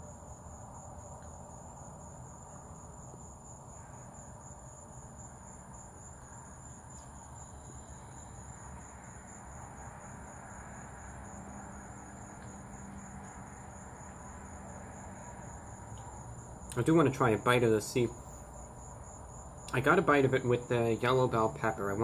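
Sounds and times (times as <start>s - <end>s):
crickets chirring: 0.0s - 22.0s
low background hiss: 0.0s - 22.0s.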